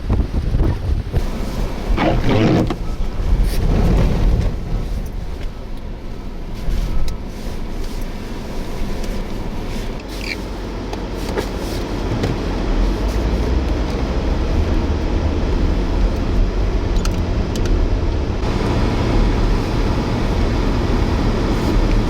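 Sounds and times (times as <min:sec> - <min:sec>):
strong wind buffeting microphone: 0:00.0 - 0:10.0, 0:12.0 - 0:22.0.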